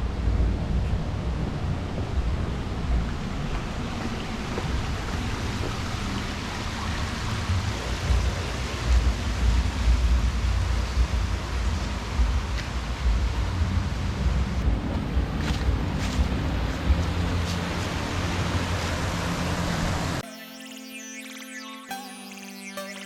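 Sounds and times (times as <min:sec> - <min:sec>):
steady rushing hiss: 0:00.0 - 0:20.2
wind buffeting microphone: 0:00.0 - 0:20.2.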